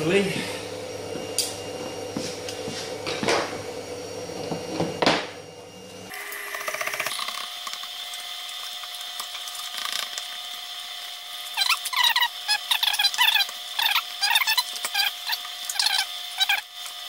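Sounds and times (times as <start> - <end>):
steady background hum: 0.0 - 16.7.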